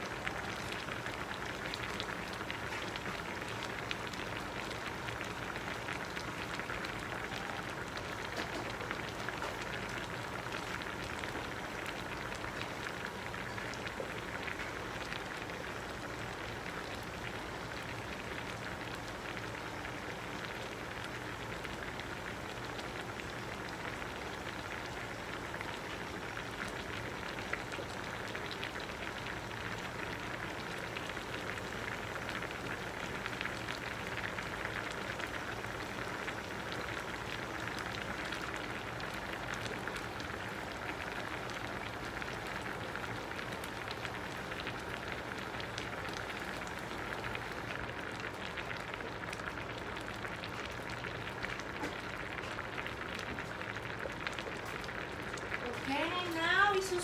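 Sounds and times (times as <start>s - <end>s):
broth boiling in a saucepan: 0.0s - 57.0s.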